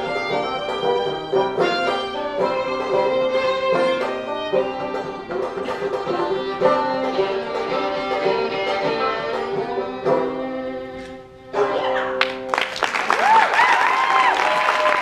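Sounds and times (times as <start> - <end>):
bowed fiddle: 0.0 - 12.3
plucked strings: 0.0 - 12.7.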